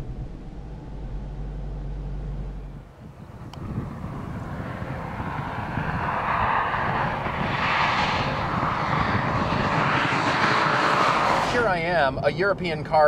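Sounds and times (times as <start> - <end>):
car engine approaching: 0.0 - 13.0.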